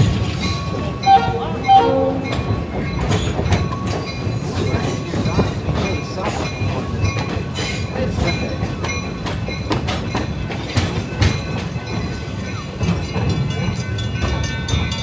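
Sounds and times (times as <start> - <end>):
rail car rumbling on track: 0.0 - 15.0
wheels clattering on rails: 0.0 - 15.0.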